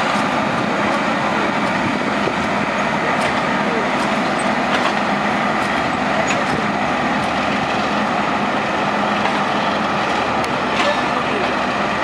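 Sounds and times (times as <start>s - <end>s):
diesel locomotive engine running: 0.0s - 12.0s.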